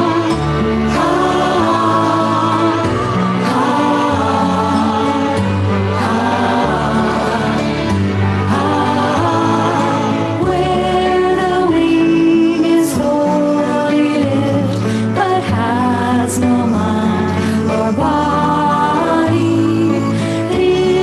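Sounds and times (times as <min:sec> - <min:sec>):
choir singing: 0:00.0 - 0:21.0
recorded backing track: 0:00.0 - 0:21.0.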